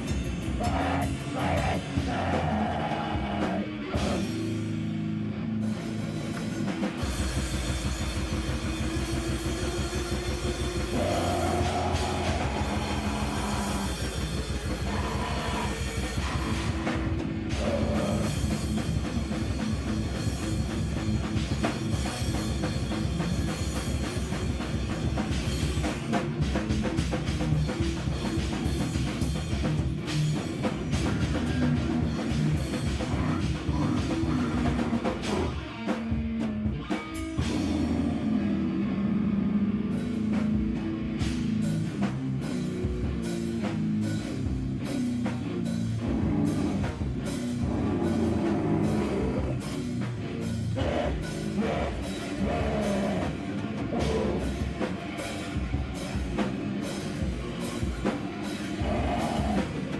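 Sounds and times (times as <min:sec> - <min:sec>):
heavy rock band playing: 0:00.0 - 0:59.9
electric guitar riff: 0:06.4 - 0:24.5, 0:25.2 - 0:59.9.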